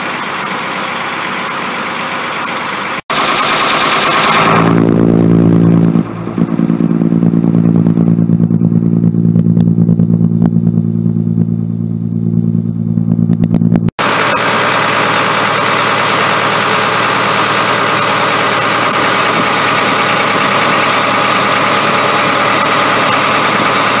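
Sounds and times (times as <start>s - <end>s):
harsh engine running with hiss: 0.0s - 9.5s, 14.0s - 24.0s
diesel engine idling: 0.0s - 24.0s.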